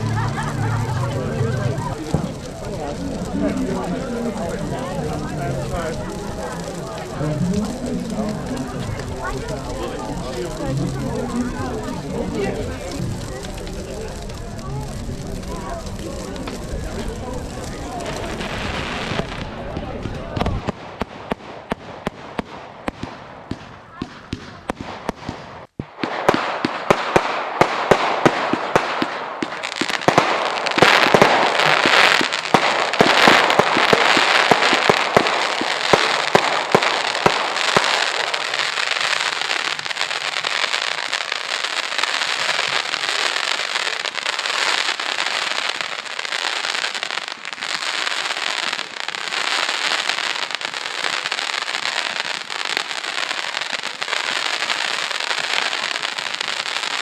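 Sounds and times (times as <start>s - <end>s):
fireworks bangs: 0.0s - 57.0s
fireworks crackling: 0.0s - 57.0s.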